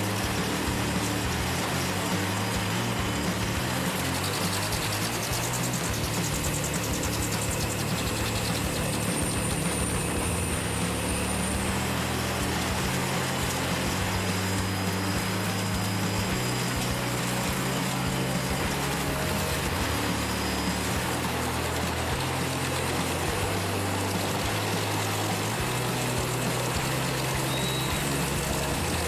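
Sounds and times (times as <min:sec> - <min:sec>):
wood chipper engine running: 0:00.0 - 0:29.0.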